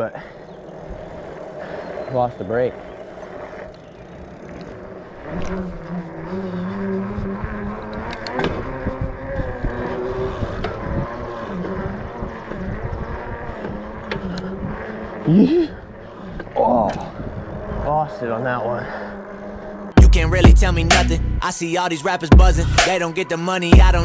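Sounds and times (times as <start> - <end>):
dirt bike engine running hard: 0.0 - 21.2, 23.7 - 24.0.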